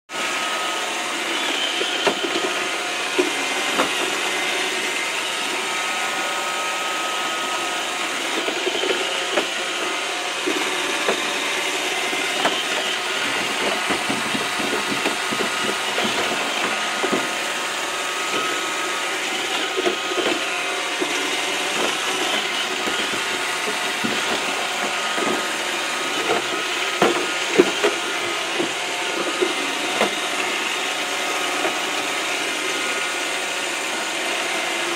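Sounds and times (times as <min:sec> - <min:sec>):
robot vacuum whirring: 0:00.1 - 0:34.9.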